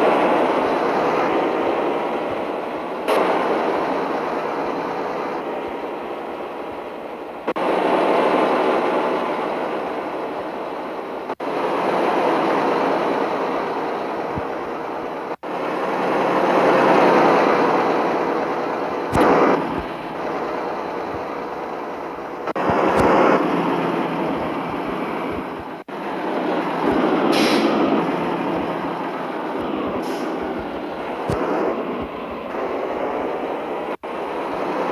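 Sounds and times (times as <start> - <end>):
truck engine and road noise: 0.0 - 34.9.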